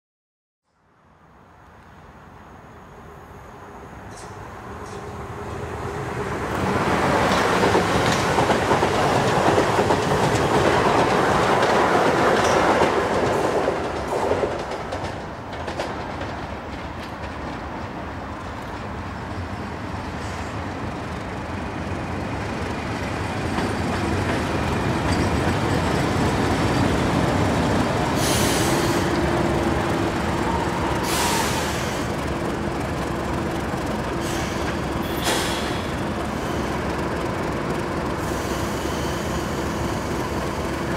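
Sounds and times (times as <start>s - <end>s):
diesel locomotive passing: 1.2s - 40.9s.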